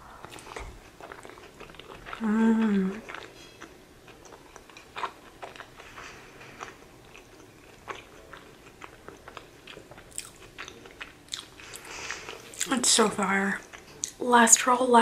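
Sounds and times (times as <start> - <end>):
crunching while chewing: 0.2 - 12.8.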